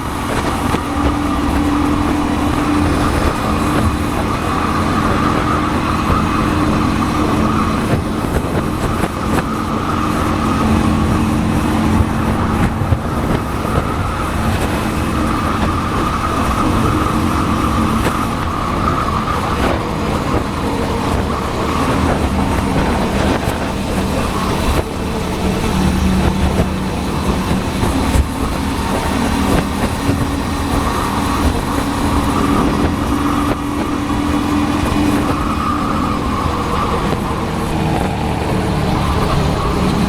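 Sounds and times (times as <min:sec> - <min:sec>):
motorcycle engine running: 0:00.0 - 0:40.0
road and air rush: 0:00.0 - 0:40.0.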